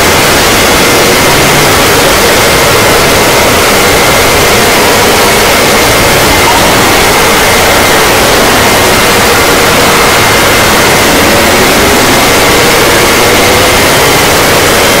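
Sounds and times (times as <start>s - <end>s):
distorted alarm roar: 0.0s - 15.0s.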